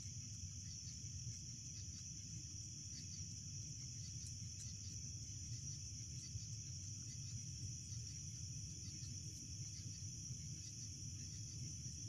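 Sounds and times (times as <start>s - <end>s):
crickets chirping: 0.0s - 12.0s
faint ticks: 0.0s - 12.0s.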